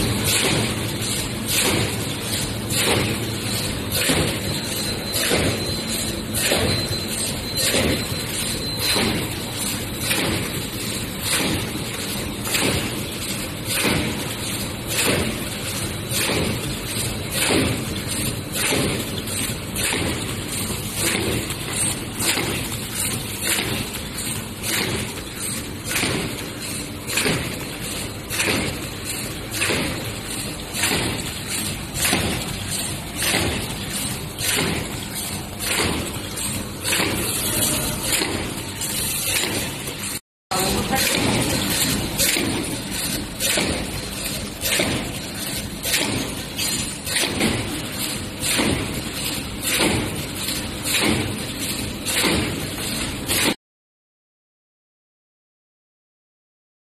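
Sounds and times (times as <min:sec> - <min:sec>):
machine stroke: 0:00.0 - 0:53.6
steady mechanical din: 0:00.0 - 0:53.6.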